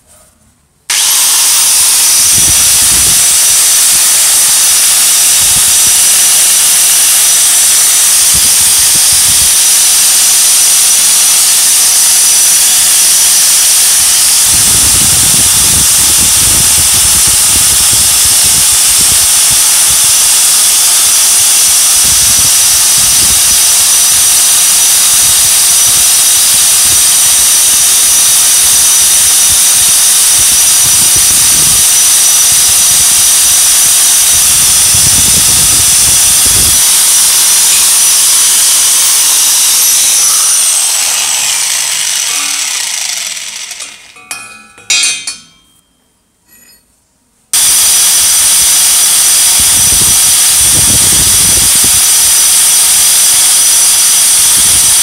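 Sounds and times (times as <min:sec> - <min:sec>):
wire wheel whining: 0:00.9 - 0:45.8, 0:47.6 - 0:55.0.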